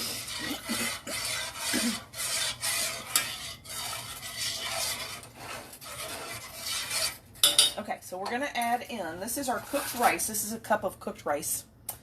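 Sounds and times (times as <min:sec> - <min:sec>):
spoon scraping a saucepan: 0:00.0 - 0:08.4, 0:09.2 - 0:10.4.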